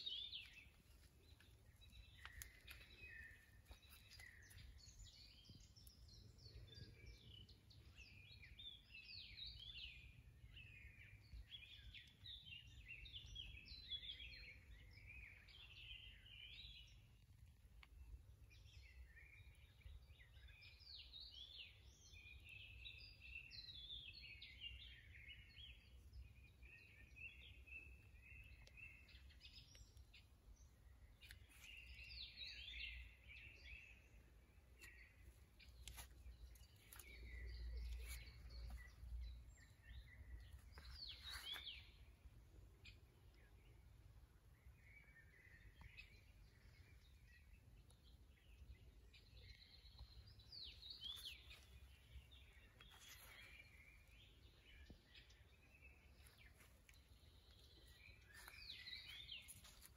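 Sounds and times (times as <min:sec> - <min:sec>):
faint songbirds chirping: 0:00.0 - 0:59.9.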